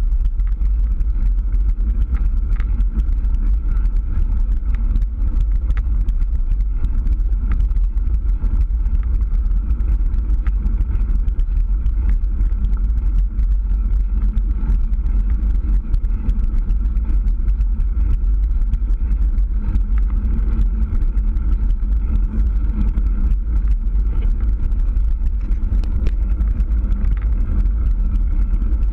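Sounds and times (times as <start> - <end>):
bike clicks and rattles: 0.0 - 28.9
bike tyres rumbling on rough road: 0.0 - 28.9
wind buffeting microphone: 0.0 - 28.9.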